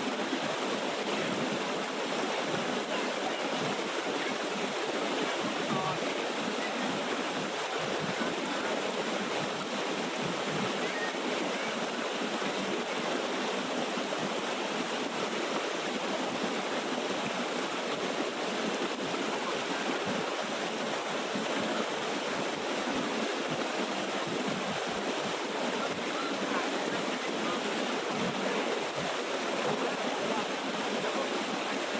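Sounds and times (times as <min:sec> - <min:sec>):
waterfall rushing and splashing: 0:00.0 - 0:31.9.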